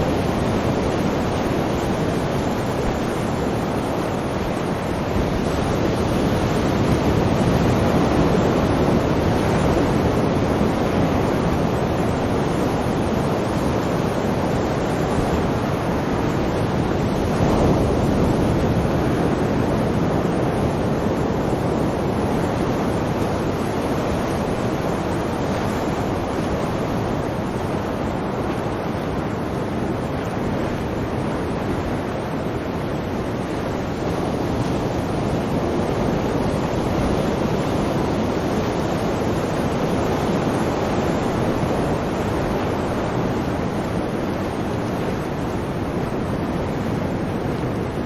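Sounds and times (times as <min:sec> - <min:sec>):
sea waves breaking on shore: 0:00.0 - 0:48.0.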